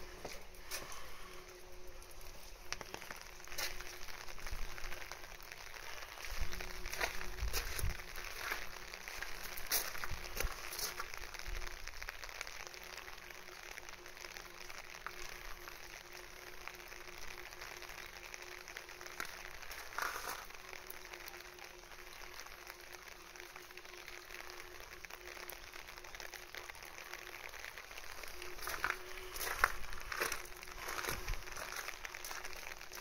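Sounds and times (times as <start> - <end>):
faint steady hum: 0.0 - 33.0
rain pattering: 0.0 - 33.0.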